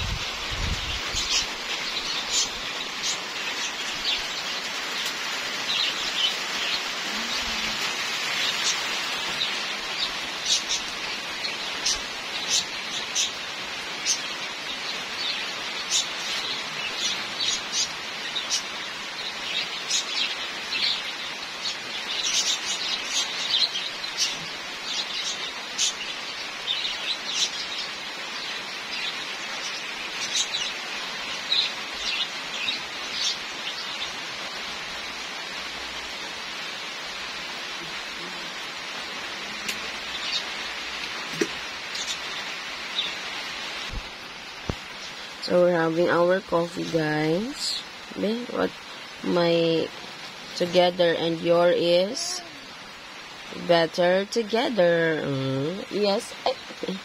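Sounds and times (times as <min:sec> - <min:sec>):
light rain hissing: 0:00.0 - 0:57.0.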